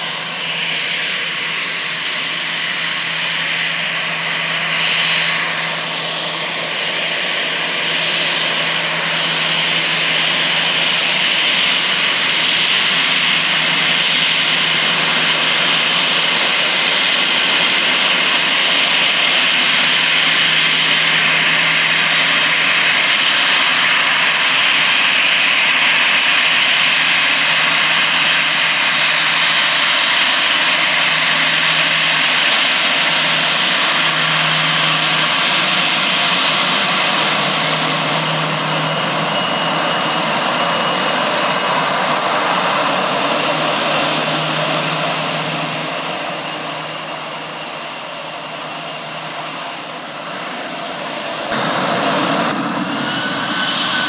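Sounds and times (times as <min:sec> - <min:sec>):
jet engines rushing with high whine: 0:00.0 - 0:54.0.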